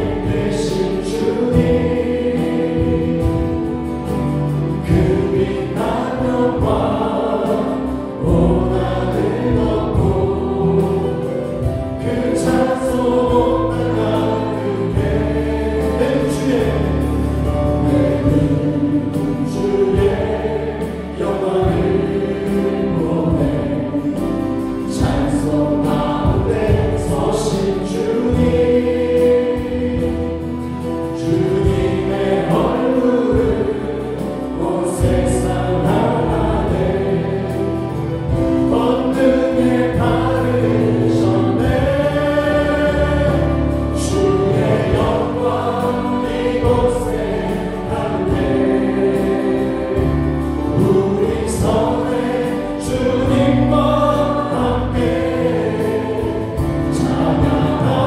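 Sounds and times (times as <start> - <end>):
bass guitar: 0.0 - 58.0
drums with cymbals: 0.0 - 58.0
voices singing worship song: 0.0 - 58.0.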